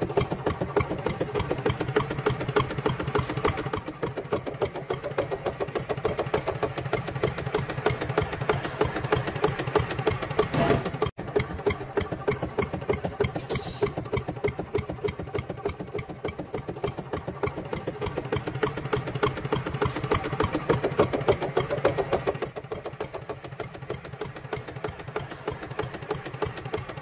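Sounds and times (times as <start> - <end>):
toy tractor ticking chug: 0.0 - 27.0.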